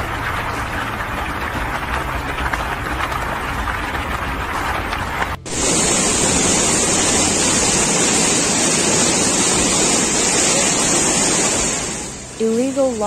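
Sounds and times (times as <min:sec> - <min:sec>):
rushing flood water: 0:00.0 - 0:13.0.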